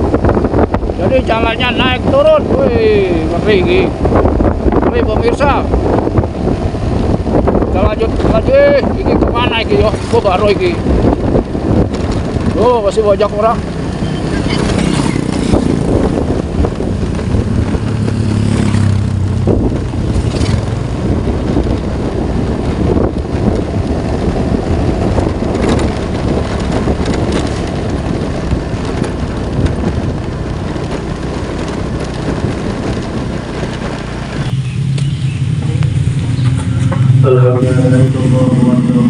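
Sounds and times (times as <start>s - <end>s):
low engine hum: 0.0s - 39.0s
vehicle noisy rush: 0.0s - 39.0s.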